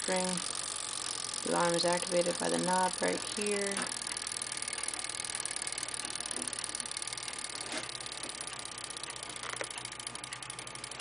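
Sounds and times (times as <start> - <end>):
clock escapement ticking: 0.0 - 11.0.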